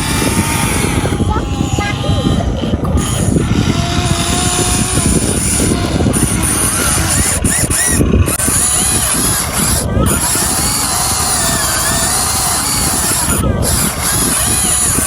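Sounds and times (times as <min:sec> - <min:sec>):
toy excavator motors rattling: 0:00.0 - 0:15.0.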